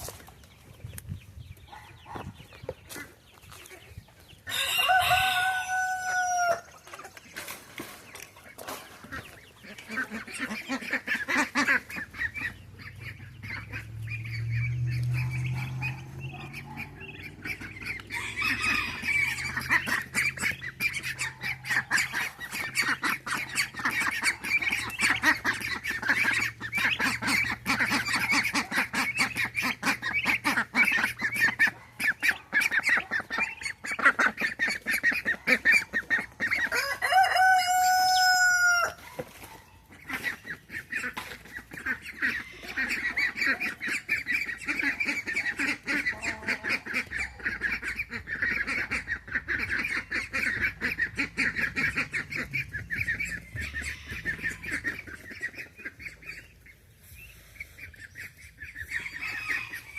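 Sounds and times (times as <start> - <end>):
chickens clucking and squawking: 0.0 - 59.9
ducks quacking: 1.6 - 59.9.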